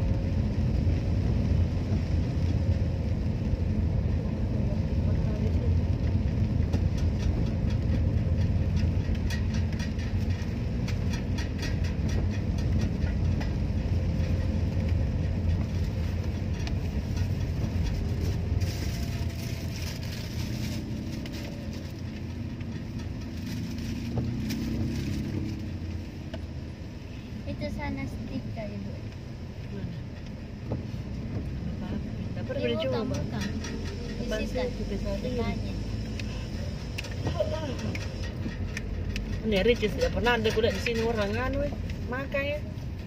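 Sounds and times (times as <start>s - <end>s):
engine and tyres on wet road: 0.0s - 43.0s
raindrops ticking on windscreen: 0.0s - 43.0s.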